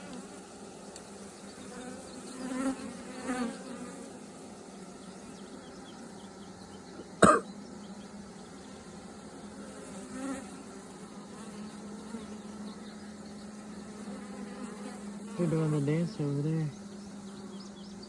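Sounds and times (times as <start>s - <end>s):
honeybees humming: 0.0s - 18.0s.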